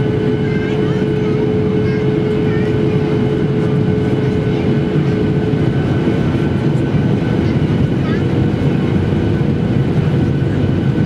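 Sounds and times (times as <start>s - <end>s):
jet engine drone: 0.0s - 11.0s
steady hum: 0.0s - 11.0s.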